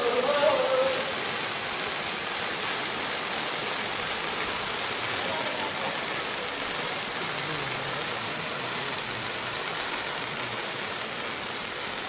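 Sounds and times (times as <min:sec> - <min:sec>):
fireworks spraying sparks hissing: 0:00.0 - 0:12.0.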